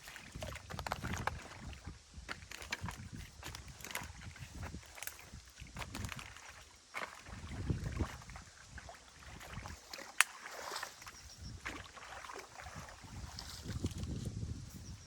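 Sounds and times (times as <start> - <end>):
water sloshing and splashing: 0.0 - 14.3.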